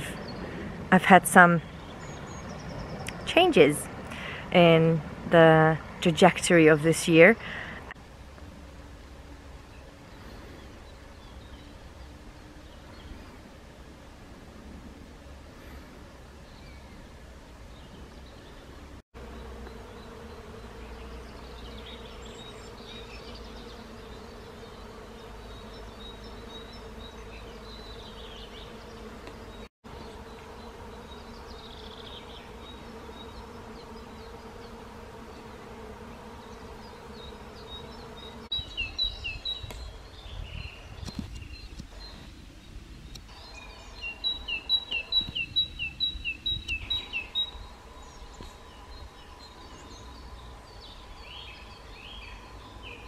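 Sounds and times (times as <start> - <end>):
bees buzzing: 0.0 - 53.0.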